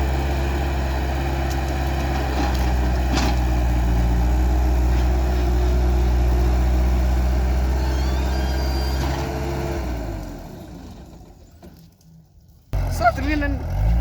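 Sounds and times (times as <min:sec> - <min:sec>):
skid steer engine running: 0:00.0 - 0:11.8.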